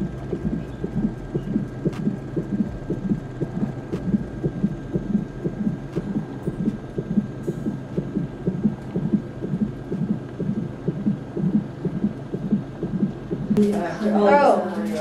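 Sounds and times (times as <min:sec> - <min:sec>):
doppler heartbeat pulse: 0:00.0 - 0:13.6.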